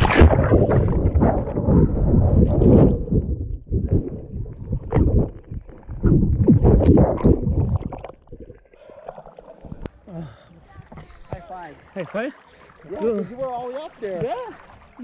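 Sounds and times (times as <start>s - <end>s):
lake water sloshing and splashing: 0.0s - 15.0s.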